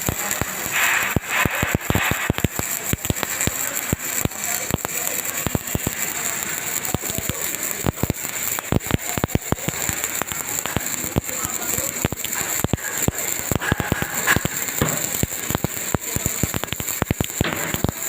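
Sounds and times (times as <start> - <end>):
arc welding crackle and pops: 0.0 - 18.0.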